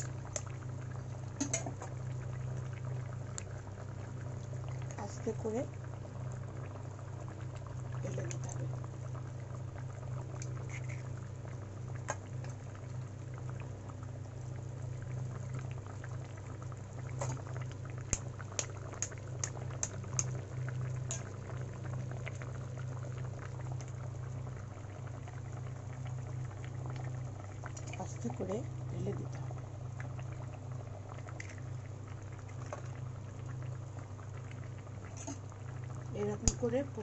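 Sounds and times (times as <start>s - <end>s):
gravy bubbling in a wok: 0.0s - 37.0s
low steady hum: 0.0s - 37.0s.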